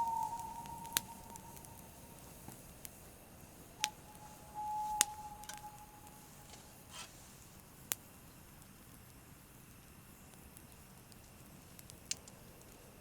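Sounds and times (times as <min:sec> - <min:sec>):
thin whistle from burning wood: 0:00.0 - 0:02.7, 0:03.4 - 0:08.5, 0:09.4 - 0:12.6
campfire crackling: 0:00.0 - 0:13.0.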